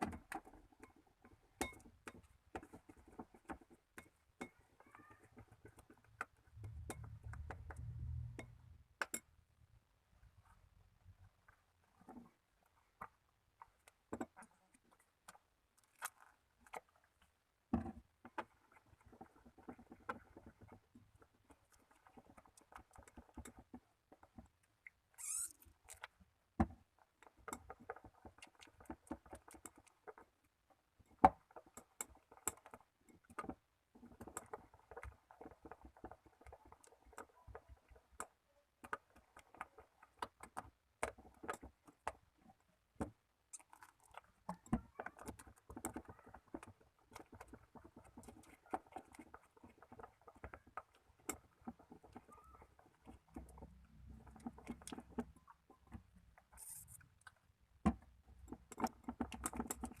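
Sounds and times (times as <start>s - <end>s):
slime squelch: 0.0s - 60.0s.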